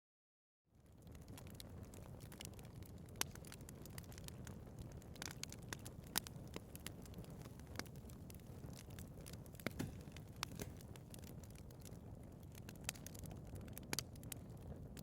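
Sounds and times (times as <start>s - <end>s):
wood fire popping and snapping: 0.7s - 15.0s.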